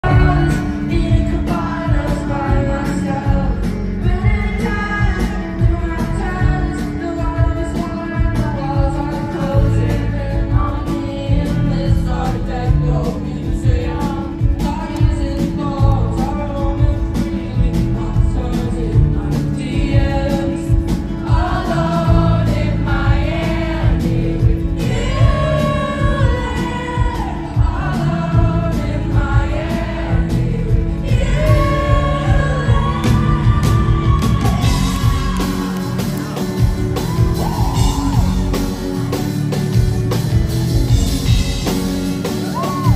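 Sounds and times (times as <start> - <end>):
woman singing: 0.0 - 36.4
live pop band playing: 0.0 - 42.9.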